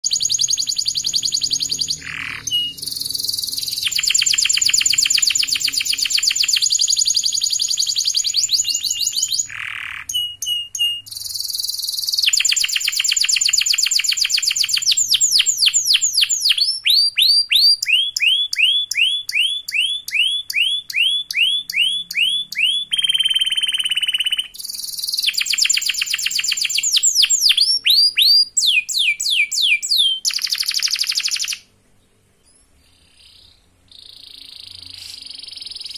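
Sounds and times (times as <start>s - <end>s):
canary singing trills: 0.0s - 31.7s, 32.4s - 35.9s.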